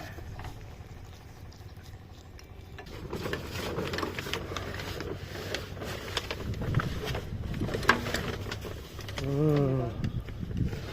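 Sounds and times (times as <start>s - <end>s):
water pump engine hum: 0.0s - 10.9s.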